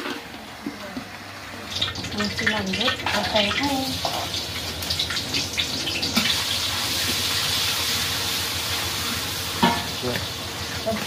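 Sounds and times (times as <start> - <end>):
food sizzling in hot oil: 1.3 - 11.0.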